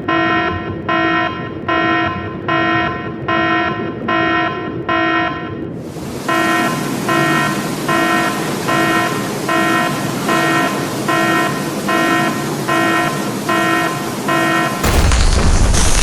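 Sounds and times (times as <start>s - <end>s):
railroad crossing warning bell: 0.0s - 14.8s.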